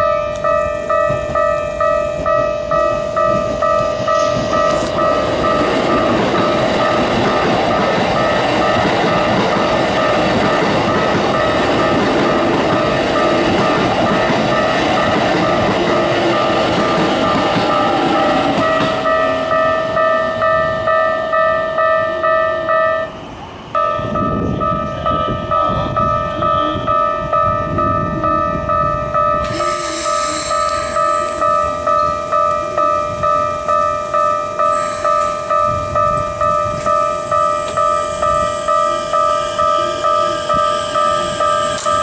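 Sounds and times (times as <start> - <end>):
level crossing bell ringing: 0.0 - 23.1, 30.6 - 42.0
train wheels rumbling: 0.0 - 42.0.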